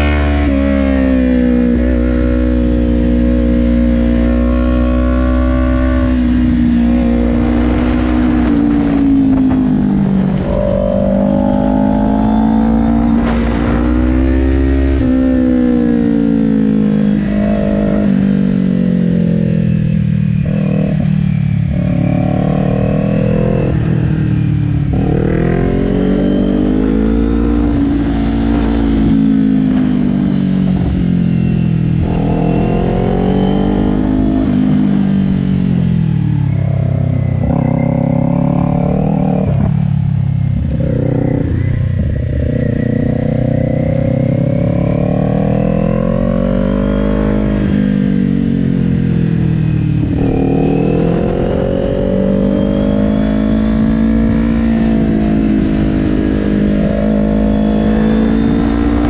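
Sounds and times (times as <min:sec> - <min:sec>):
motorcycle engine revving at speed: 0:00.0 - 0:59.0.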